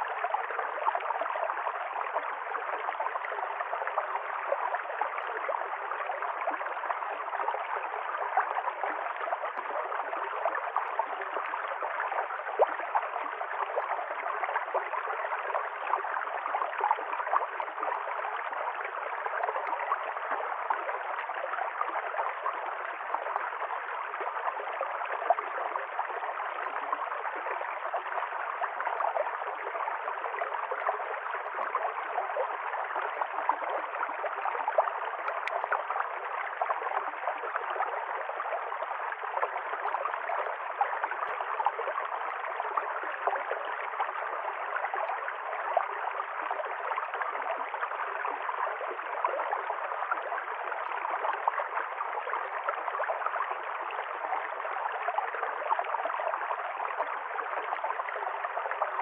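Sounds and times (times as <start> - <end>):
stream water over stones: 0.0 - 59.0.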